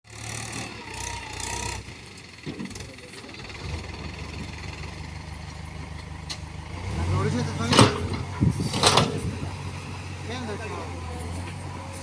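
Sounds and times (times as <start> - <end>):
heavy diesel engine running: 0.1 - 12.0.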